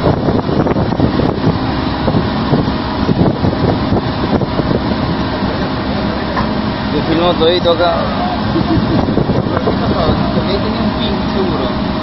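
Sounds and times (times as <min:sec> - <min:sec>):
boat engine running: 0:00.0 - 0:12.0
deck machinery: 0:00.0 - 0:12.0
wind on microphone: 0:00.0 - 0:12.0.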